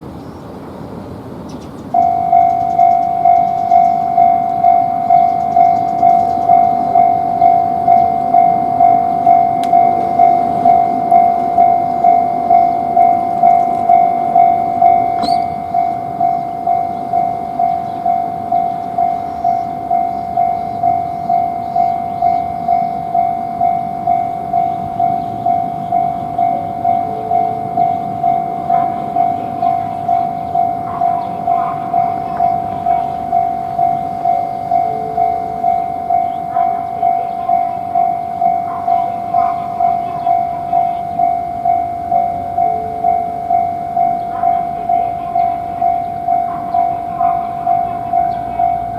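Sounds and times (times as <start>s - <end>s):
level-crossing warning bell: 0.0s - 48.9s
train rumbling past: 0.0s - 48.9s.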